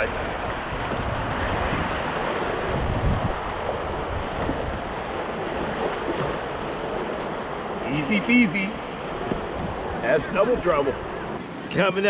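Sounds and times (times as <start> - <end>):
whitewater rushing: 0.0 - 11.4
wind buffeting microphone: 0.3 - 11.4.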